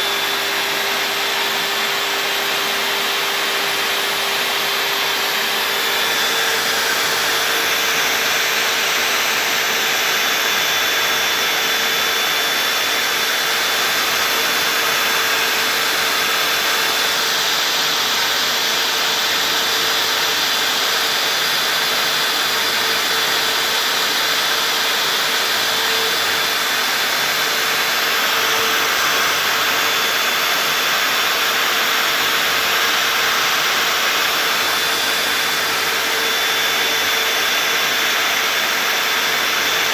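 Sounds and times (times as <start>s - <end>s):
cnc router spindle carving wood: 0.0s - 39.9s.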